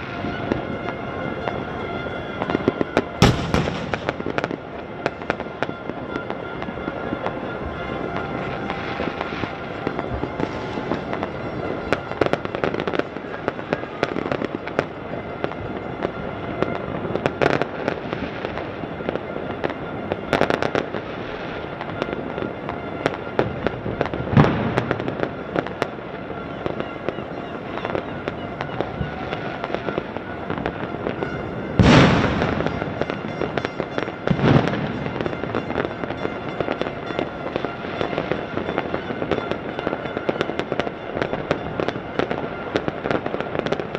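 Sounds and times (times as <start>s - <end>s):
distant fireworks bangs and crackling: 0.0s - 43.9s
loud firework blasts: 0.0s - 43.9s.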